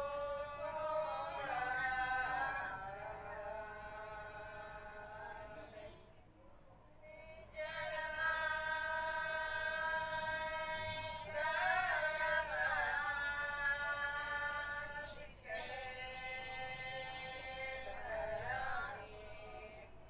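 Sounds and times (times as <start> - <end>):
high voice singing a prayer song: 0.0 - 6.2, 7.0 - 20.0.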